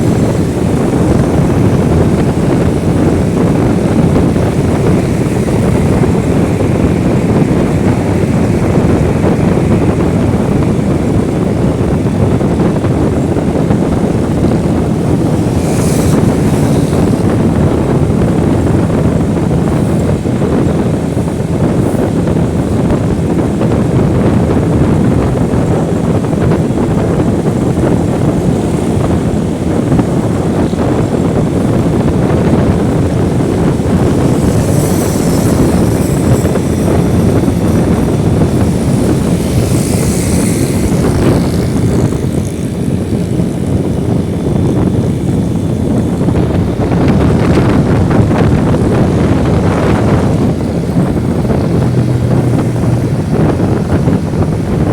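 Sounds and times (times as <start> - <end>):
motorcycle engine and road rumble: 0.0 - 54.9
wind rushing over microphone: 0.0 - 54.9.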